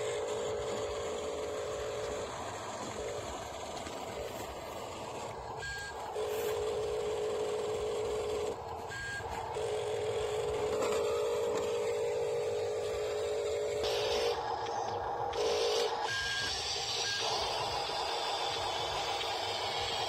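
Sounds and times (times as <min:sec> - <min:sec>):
electric motor and gearbox whining: 0:00.0 - 0:20.0.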